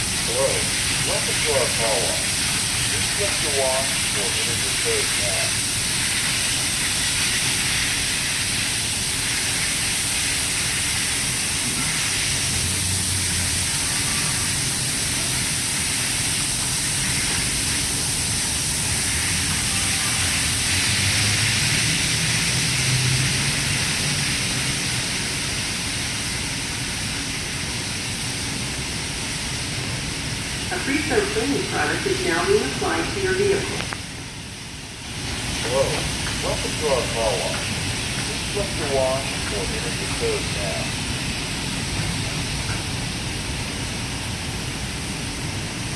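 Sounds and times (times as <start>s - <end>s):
high-pressure water spray hissing: 0.0s - 45.9s.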